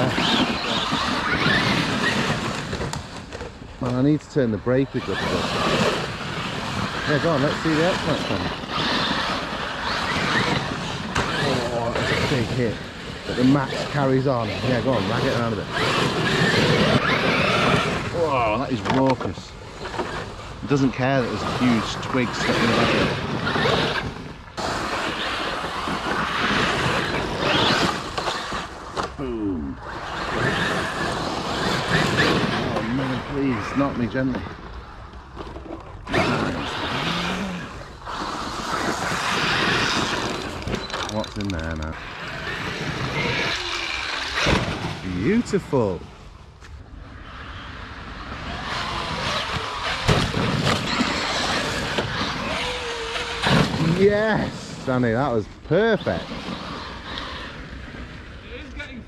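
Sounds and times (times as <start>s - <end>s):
electric motor whining: 0.0s - 46.0s, 46.6s - 58.9s
tyres churning over rough ground: 0.0s - 46.3s, 47.0s - 59.0s.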